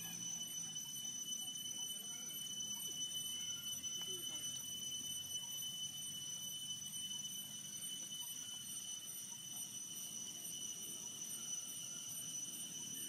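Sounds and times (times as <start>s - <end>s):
faint chirps: 0.0s - 13.0s
high-pitched insect drone: 0.0s - 13.0s.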